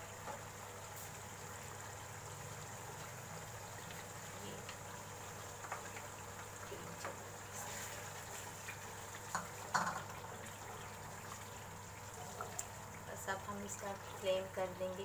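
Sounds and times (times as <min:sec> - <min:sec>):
gravy simmering in a wok: 0:00.0 - 0:15.0.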